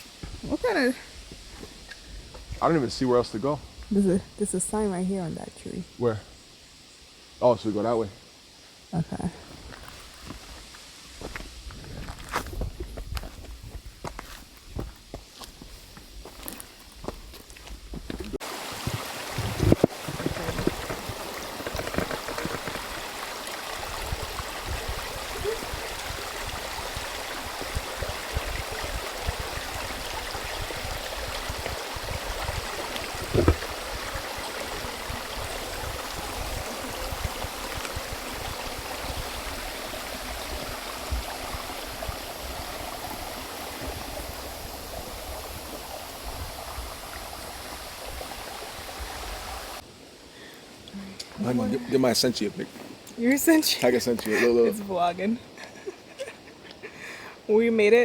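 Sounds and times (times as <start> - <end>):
stream of water running: 0.0 - 58.0.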